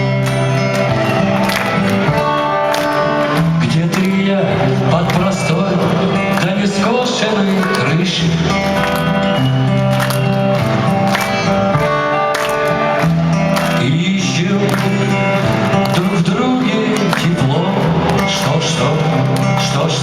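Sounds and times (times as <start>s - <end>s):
live rock band: 0.0s - 20.0s.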